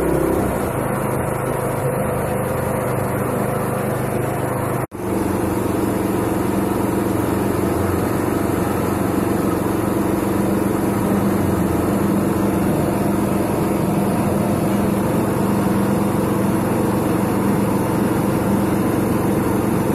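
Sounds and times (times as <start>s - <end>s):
machine motor drone: 0.0s - 19.9s.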